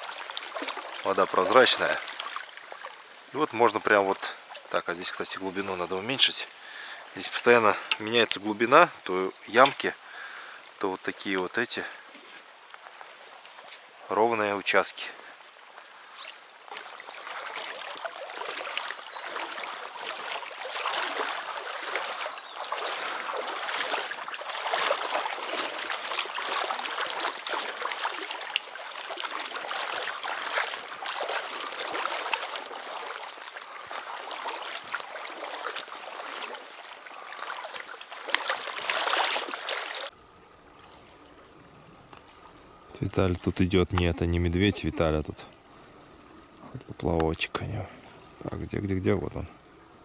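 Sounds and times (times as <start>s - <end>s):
stream rushing and splashing: 0.0s - 49.4s.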